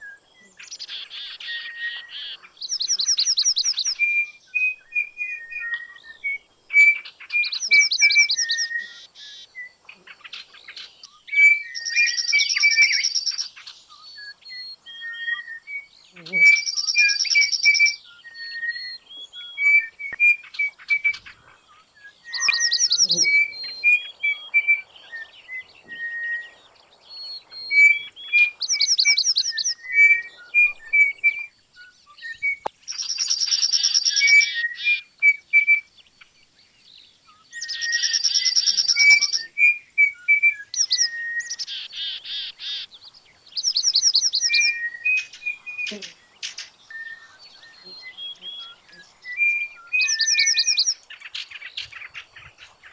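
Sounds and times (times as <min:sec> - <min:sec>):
birds singing and trilling: 0:00.0 - 0:52.9.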